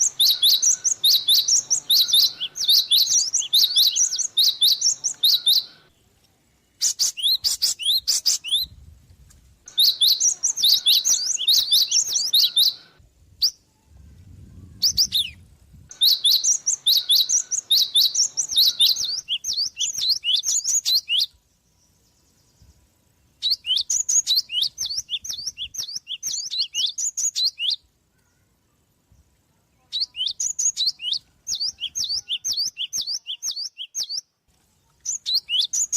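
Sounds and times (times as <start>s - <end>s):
bird chirping: 0.0s - 8.8s, 9.7s - 28.5s, 29.1s - 35.9s.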